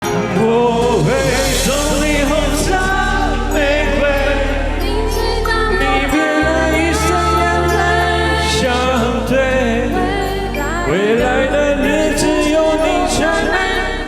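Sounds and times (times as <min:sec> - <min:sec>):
backing music: 0:00.0 - 0:14.0
person singing with vibrato: 0:00.0 - 0:14.0.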